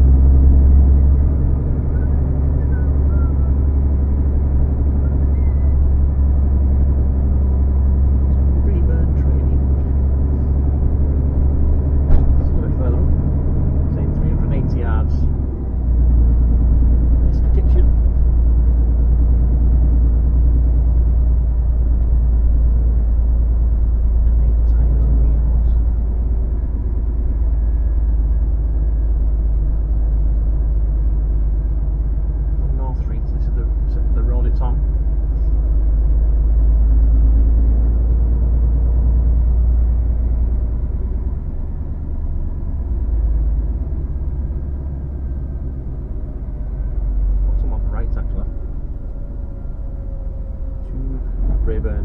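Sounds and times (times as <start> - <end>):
road noise: 0.0 - 52.0
truck diesel engine drone: 0.0 - 52.0.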